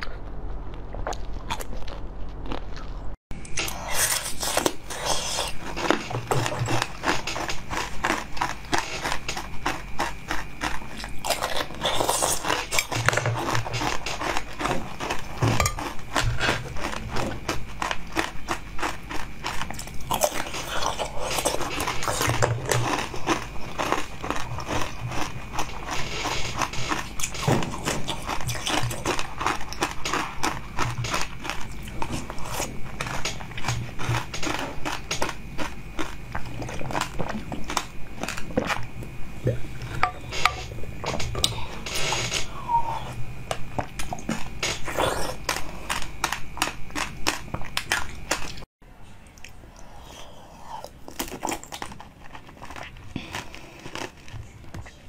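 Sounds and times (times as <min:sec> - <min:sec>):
crunching and wet mouth sounds: 0:00.0 - 0:48.6, 0:49.2 - 0:55.0.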